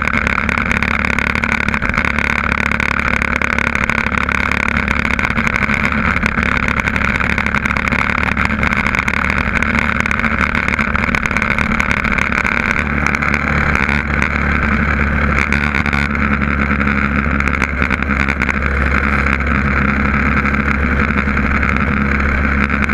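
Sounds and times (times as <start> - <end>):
motorcycle engine cruising: 0.0 - 22.9
rush of riding air: 0.0 - 22.9.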